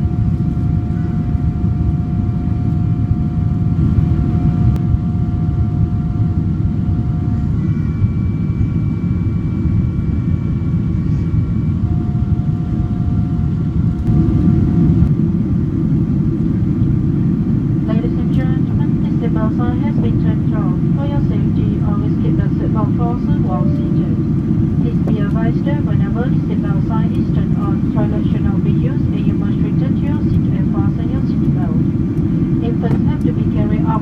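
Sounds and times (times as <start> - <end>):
airflow and engine noise: 0.0 - 34.0
faint steady whining tones: 0.0 - 34.0.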